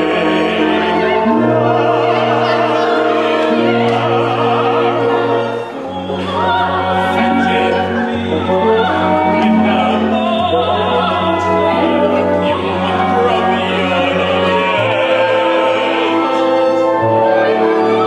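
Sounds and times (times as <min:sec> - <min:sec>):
operatic singing voice: 0:00.0 - 0:18.0
orchestra playing held chords: 0:00.0 - 0:18.0.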